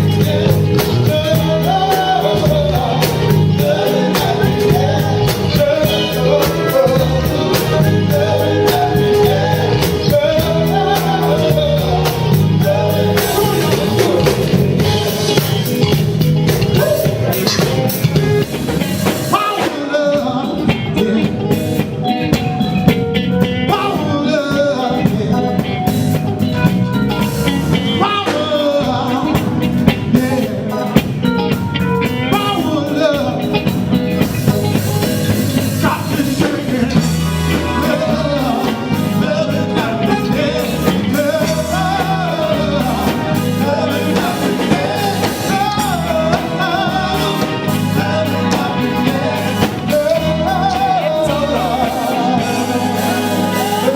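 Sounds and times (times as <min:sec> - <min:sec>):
person singing: 0:00.0 - 0:22.6, 0:23.2 - 0:26.4, 0:27.1 - 0:33.8, 0:35.1 - 0:53.9
live band playing blues: 0:00.0 - 0:53.9.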